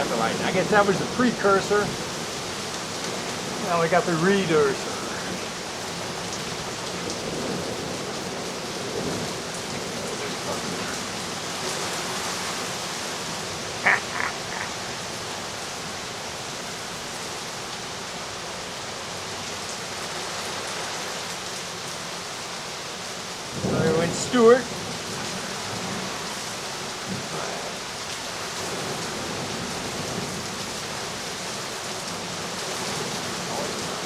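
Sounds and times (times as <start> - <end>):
storm rain: 0.0 - 34.0.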